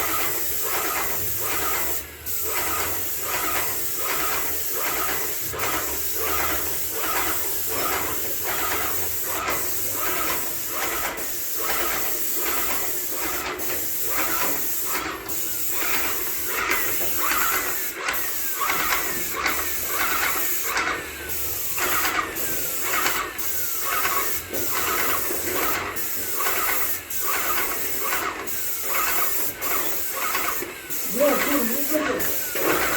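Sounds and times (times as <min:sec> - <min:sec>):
paint sprayer pulsing hiss: 0:00.0 - 0:32.9.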